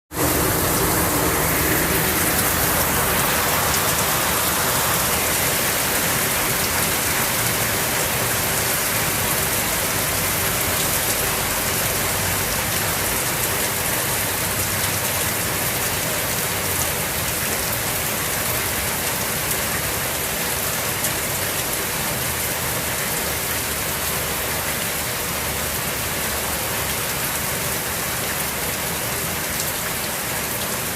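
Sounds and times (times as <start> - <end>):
heavy rain drumming: 0.1 - 30.9.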